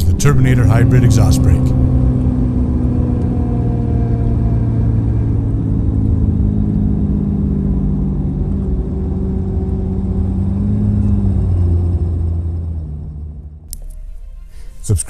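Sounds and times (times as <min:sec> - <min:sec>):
diesel engine with exhaust brake: 0:00.0 - 0:14.7.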